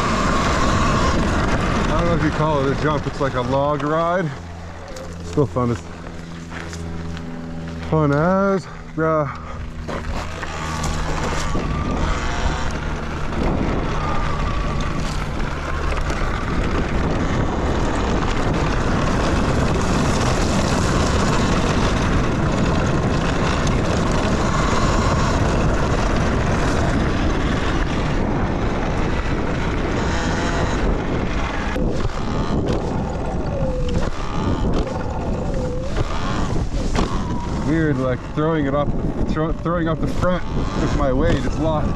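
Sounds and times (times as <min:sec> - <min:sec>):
electric motor whine: 0:00.0 - 0:41.9
wind rushing over microphone: 0:00.0 - 0:41.9.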